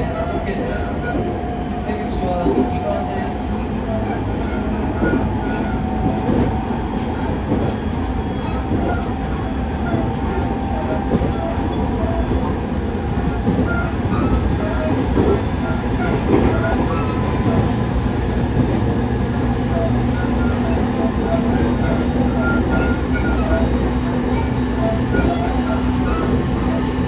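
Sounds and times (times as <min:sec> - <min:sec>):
wheels rumbling on rails: 0:00.0 - 0:27.0.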